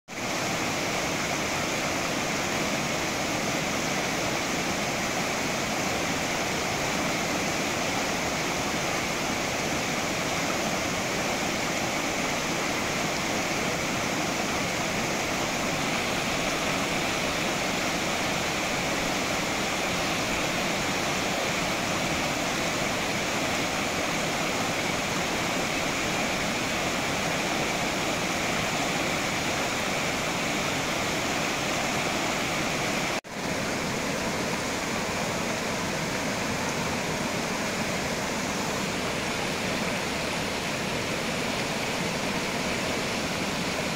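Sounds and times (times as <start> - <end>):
stream rushing over rocks: 0.1 - 43.9.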